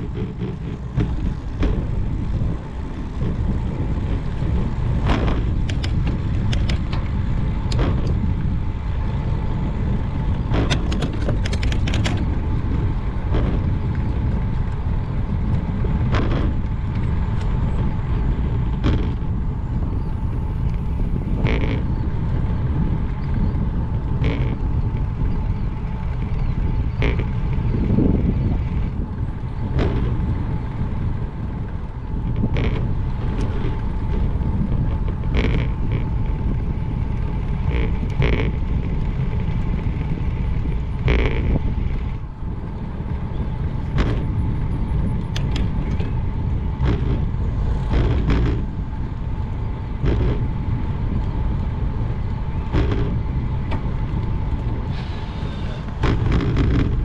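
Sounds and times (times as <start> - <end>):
bike clicks and knocks over bumps: 0.0 - 57.0
faint steady whine: 0.0 - 57.0
wind rumbling on microphone: 0.0 - 57.0.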